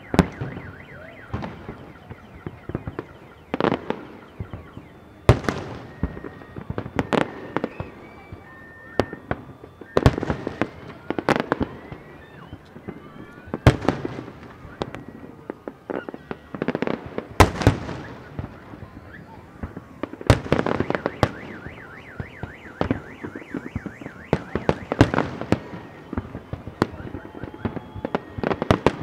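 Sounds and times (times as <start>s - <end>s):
car alarm warbling: 0.0s - 29.0s
fireworks bangs and crackles: 0.0s - 29.0s.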